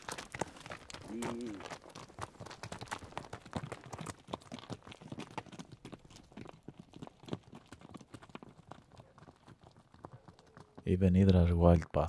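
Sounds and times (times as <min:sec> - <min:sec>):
hooves clopping on stony trail: 0:00.0 - 0:12.0.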